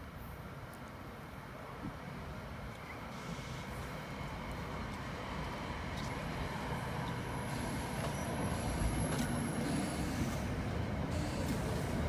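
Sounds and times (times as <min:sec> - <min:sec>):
train rumbling past: 0:01.7 - 0:12.0.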